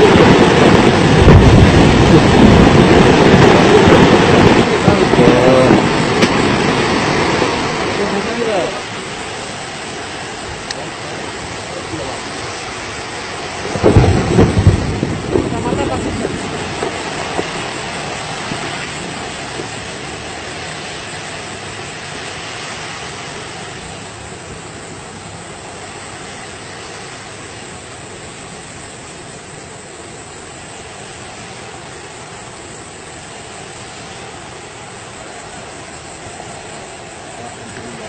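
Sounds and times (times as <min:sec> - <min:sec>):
volcanic eruption roaring: 0:00.0 - 0:38.0.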